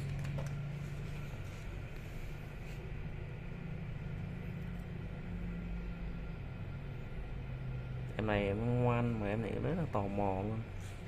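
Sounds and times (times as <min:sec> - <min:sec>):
low machine hum with hiss: 0:00.0 - 0:11.0.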